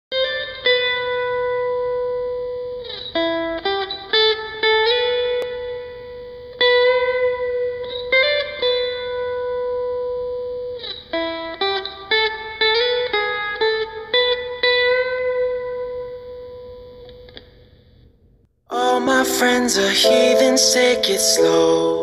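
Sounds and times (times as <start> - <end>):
plucked guitar music: 0.1 - 16.7, 18.8 - 22.0.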